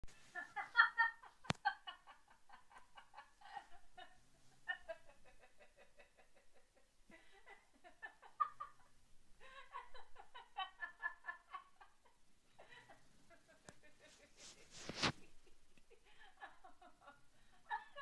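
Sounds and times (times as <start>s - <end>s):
women laughing: 0.1s - 18.0s.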